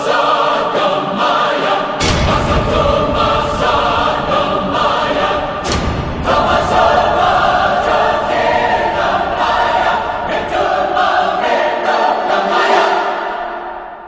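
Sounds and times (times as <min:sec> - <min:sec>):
choir singing sustained chords: 0:00.0 - 0:14.0.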